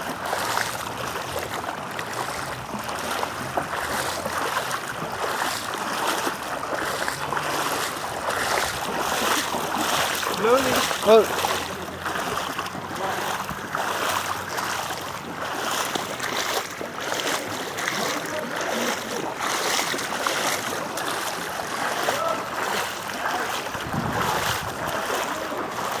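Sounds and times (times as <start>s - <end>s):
water running on street: 0.0s - 26.0s.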